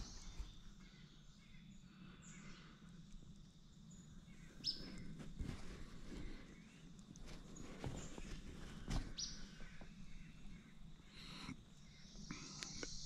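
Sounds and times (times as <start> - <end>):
faint bird calls: 0.0 - 3.1, 3.9 - 13.0
faint low hum: 0.0 - 13.0.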